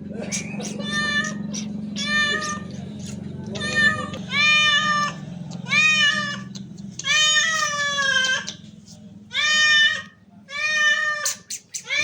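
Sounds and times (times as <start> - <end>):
cat meowing: 0.7 - 2.8, 3.5 - 8.6, 9.3 - 12.0.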